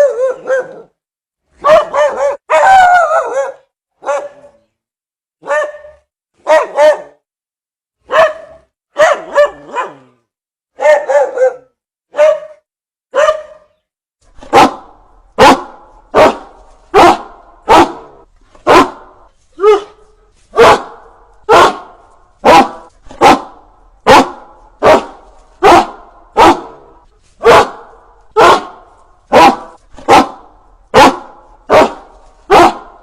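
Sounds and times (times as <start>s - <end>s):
dog barking: 0.0s - 0.9s, 1.6s - 4.6s, 5.4s - 7.2s, 8.0s - 10.1s, 10.8s - 13.8s, 14.4s - 33.0s.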